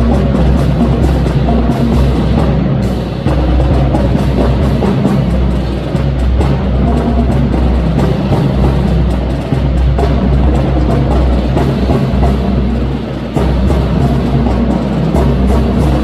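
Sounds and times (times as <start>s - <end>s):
loud music with drums and bass: 0.0s - 16.0s.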